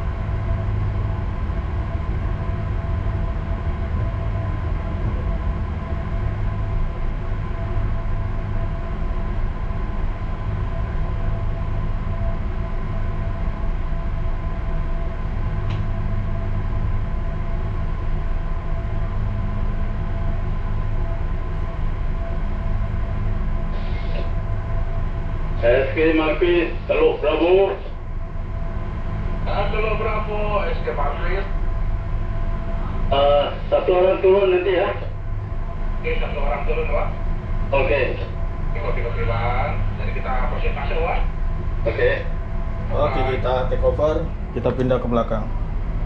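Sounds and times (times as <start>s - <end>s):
ship engines droning: 0.0s - 46.0s.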